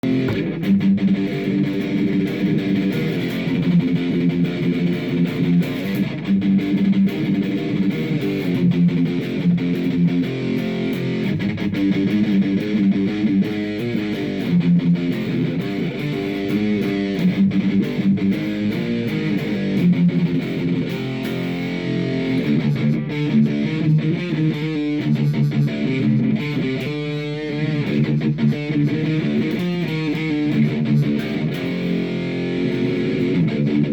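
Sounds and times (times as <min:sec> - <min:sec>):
electric guitar plucked notes: 0:00.0 - 0:33.9.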